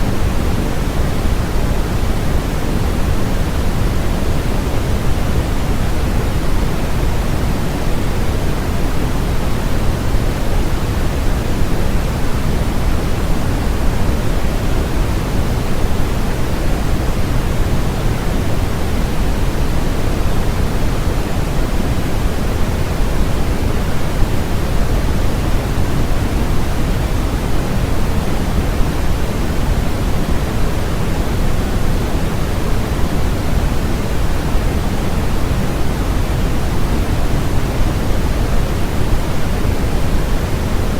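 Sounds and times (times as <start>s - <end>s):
steady electronic hiss: 0.0s - 40.9s.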